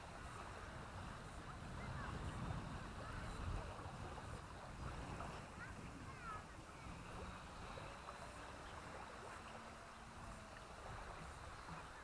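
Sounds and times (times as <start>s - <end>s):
faint hiss of water: 0.0s - 12.0s
wind buffeting microphone: 0.0s - 12.0s.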